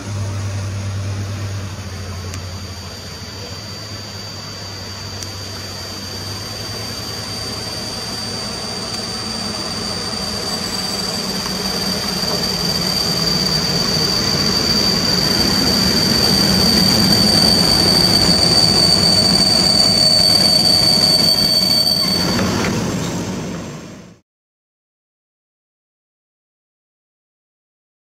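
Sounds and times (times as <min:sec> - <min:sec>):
high-pitched squeal: 0:00.0 - 0:24.2
train passing rumble: 0:00.0 - 0:24.2.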